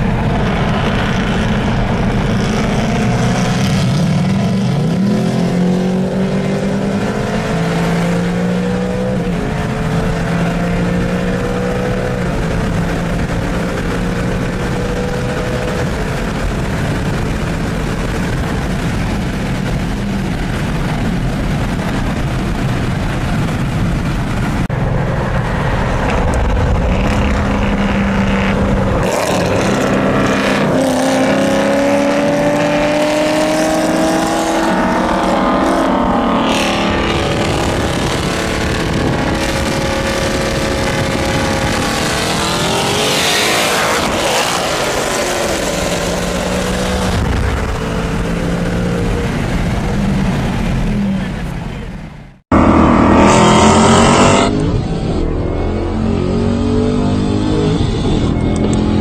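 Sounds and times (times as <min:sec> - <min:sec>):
car engines accelerating: 0:00.0 - 0:59.0.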